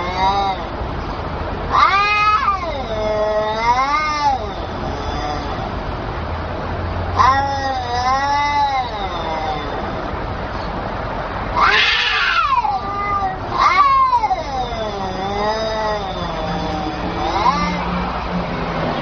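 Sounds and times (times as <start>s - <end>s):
cat yowling: 0.0s - 0.8s, 1.7s - 5.8s, 7.1s - 10.7s, 11.5s - 19.0s.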